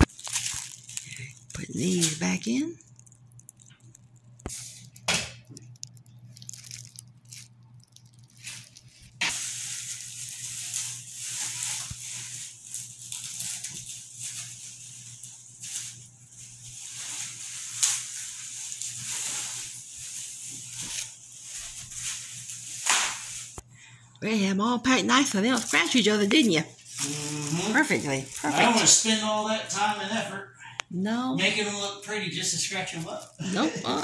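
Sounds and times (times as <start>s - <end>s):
bubble wrap crinkling: 0.0s - 23.7s, 25.1s - 29.2s, 31.4s - 34.0s
steady low hum: 0.0s - 34.0s.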